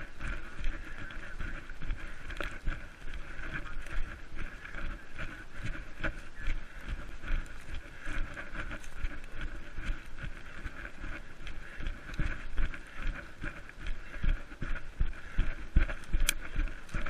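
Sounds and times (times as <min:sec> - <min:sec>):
running footsteps in undergrowth: 0:00.0 - 0:17.0.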